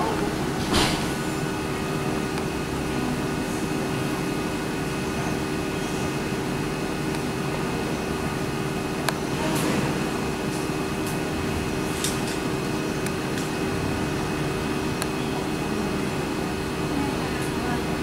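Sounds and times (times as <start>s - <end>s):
jet engines humming: 0.0s - 18.0s.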